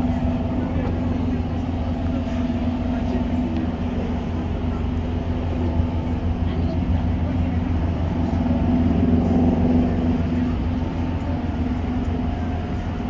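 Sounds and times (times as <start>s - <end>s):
ship engines and ventilation hum: 0.0s - 13.0s
steady humming tone: 0.0s - 13.0s.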